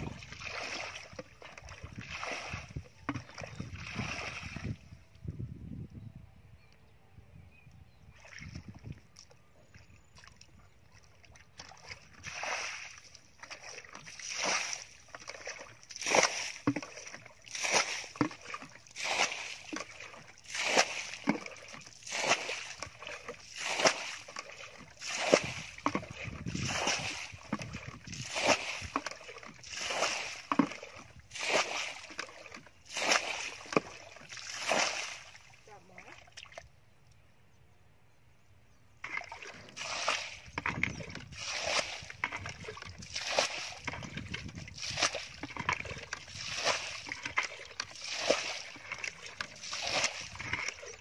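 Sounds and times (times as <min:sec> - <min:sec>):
bucket splashing muddy water: 0:00.0 - 0:04.9, 0:08.1 - 0:36.7, 0:39.0 - 0:51.0.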